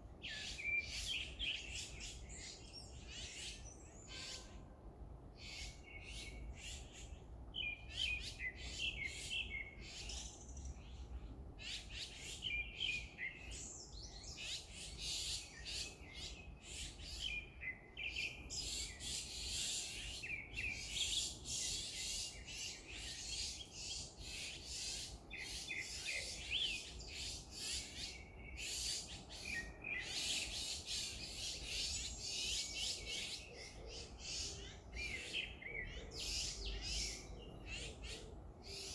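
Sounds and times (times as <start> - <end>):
small birds chirping: 5.4 - 38.9.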